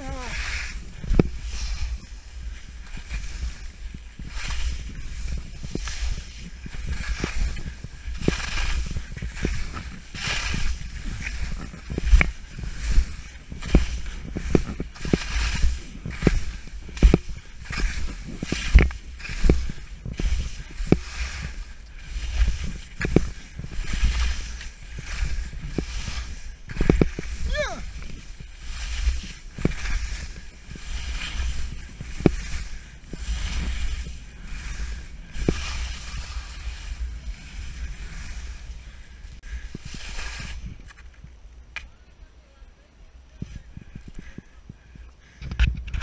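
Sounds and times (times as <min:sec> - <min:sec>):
skis knocking on bumps: 0:00.0 - 0:38.8
skis scraping on snow: 0:00.0 - 0:42.6, 0:43.3 - 0:46.0
wind rumble on microphone: 0:00.0 - 0:46.0.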